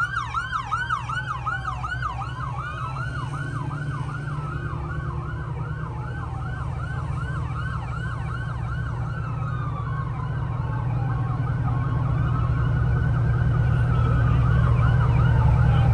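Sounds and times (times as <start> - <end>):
heavy vehicle engine rumble: 0.0 - 15.9
siren yelping: 0.0 - 15.9
slower falling siren tone: 0.0 - 15.9.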